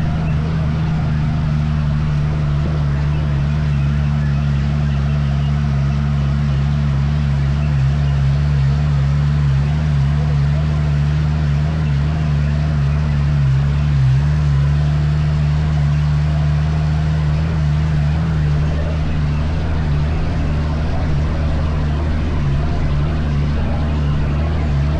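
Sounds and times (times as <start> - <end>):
buggy engine droning: 0.0 - 24.9.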